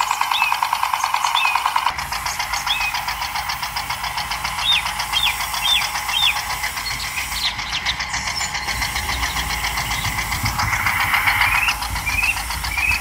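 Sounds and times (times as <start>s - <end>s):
toy motor and gears ticking: 0.0s - 13.0s.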